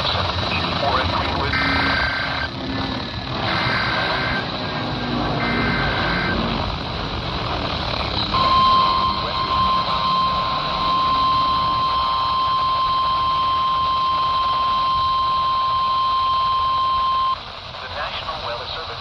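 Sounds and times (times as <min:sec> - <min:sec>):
radio hiss: 0:00.0 - 0:19.0
steady alarm tone: 0:01.3 - 0:17.4.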